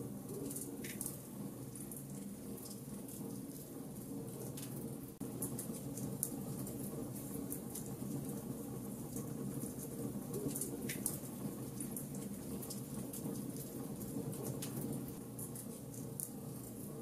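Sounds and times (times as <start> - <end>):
fire crackling and popping: 0.2 - 17.0.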